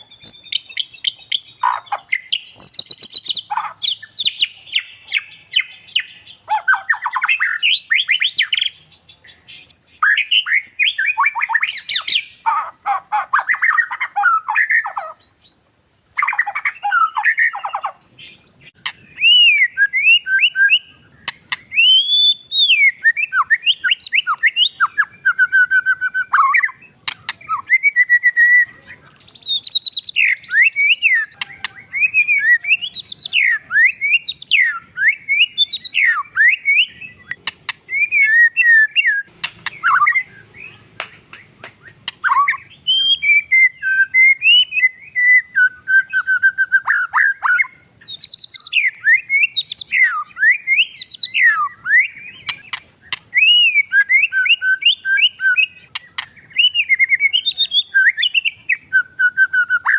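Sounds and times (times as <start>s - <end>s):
bird singing chattering phrases: 0.0s - 59.9s.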